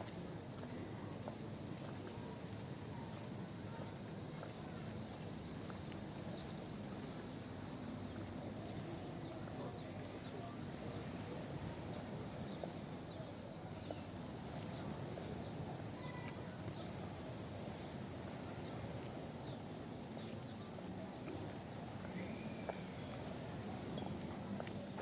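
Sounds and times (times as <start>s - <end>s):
low wash of people: 0.0s - 25.0s.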